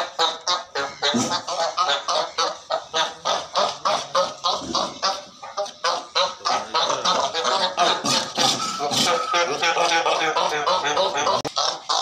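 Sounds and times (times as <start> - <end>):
seals barking: 0.0 - 12.0.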